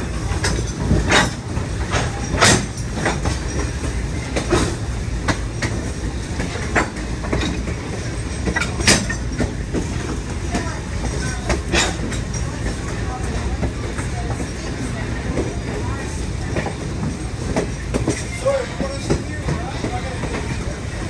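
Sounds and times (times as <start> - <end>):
train rumble: 0.0 - 21.0
wheel clacks: 0.0 - 21.0.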